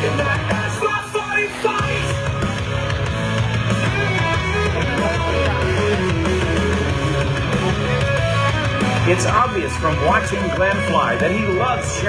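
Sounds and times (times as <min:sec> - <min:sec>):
electric guitar: 0:00.0 - 0:12.0
steady bass line: 0:00.0 - 0:12.0.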